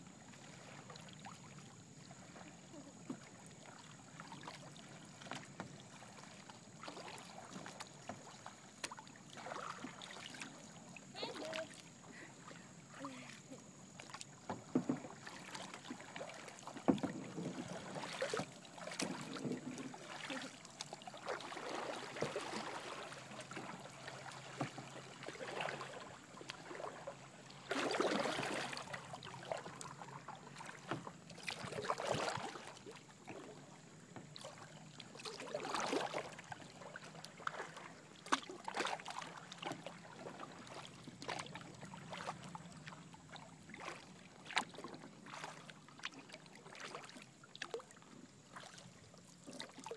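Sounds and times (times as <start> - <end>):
kayak paddle splashing: 0.0 - 49.9.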